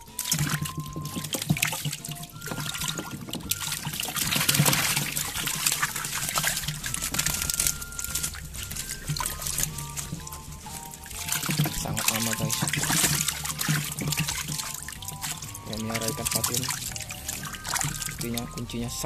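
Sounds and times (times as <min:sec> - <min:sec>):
water splashing and dripping: 0:00.0 - 0:19.0.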